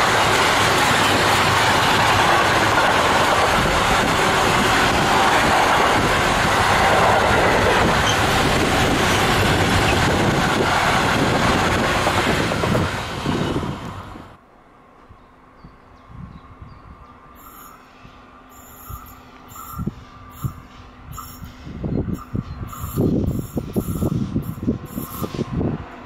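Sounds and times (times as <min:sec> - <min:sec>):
train wheels rumbling on rails: 0:00.0 - 0:14.4, 0:17.4 - 0:26.0.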